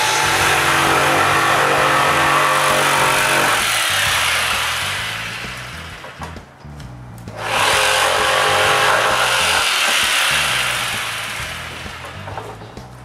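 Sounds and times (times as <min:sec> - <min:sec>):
electric saw cutting wood: 0:00.0 - 0:06.4, 0:07.3 - 0:12.7.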